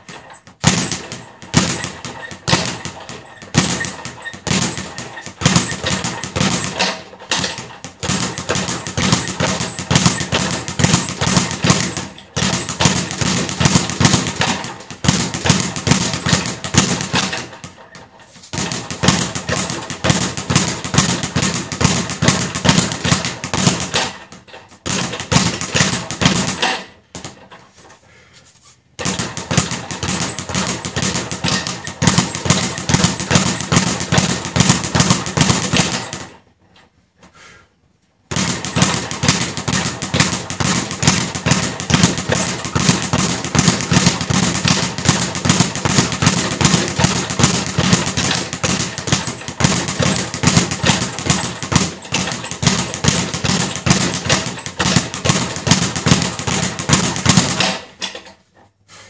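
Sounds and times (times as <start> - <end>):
speed bag rattling: 0.0 - 27.5, 29.0 - 36.4, 38.3 - 58.2.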